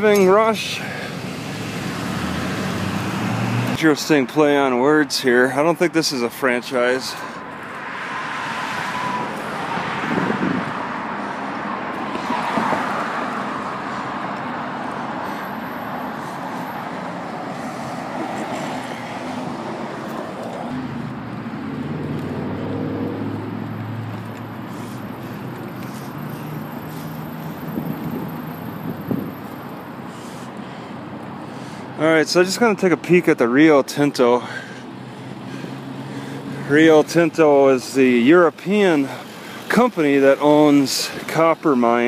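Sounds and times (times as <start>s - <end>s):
cars passing: 0.0s - 42.0s
road traffic: 0.0s - 42.0s.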